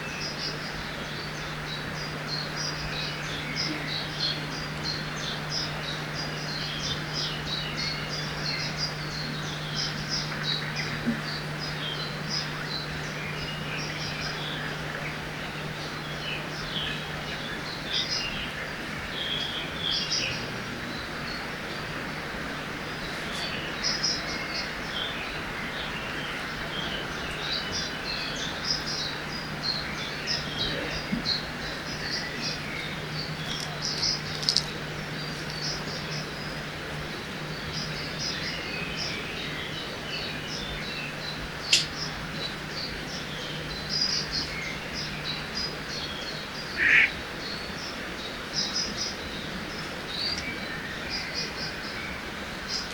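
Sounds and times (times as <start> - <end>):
river water rushing: 0.0 - 52.9
small birds chirping: 0.0 - 52.9.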